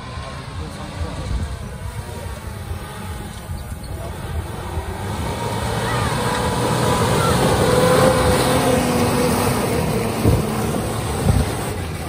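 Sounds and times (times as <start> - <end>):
off-road vehicle engine under load: 0.0 - 12.0
tyres churning through mud: 0.0 - 12.0.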